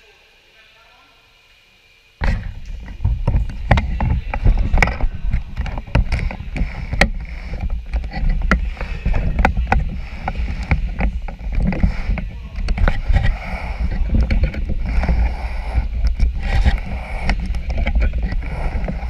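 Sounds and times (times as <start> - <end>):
camera handling rumble: 2.2 - 19.0
knocks and clicks: 2.2 - 19.0.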